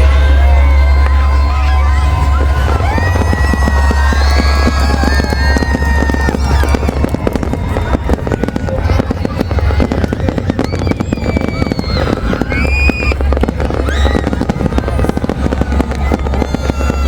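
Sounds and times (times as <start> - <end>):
deep booming rumble: 0.0 - 17.0
fireworks bangs and crackles: 0.0 - 17.0.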